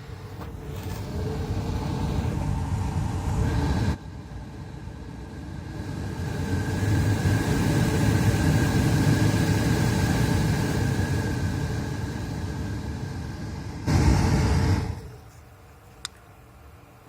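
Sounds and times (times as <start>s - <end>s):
heater blower fan running: 0.0s - 15.4s.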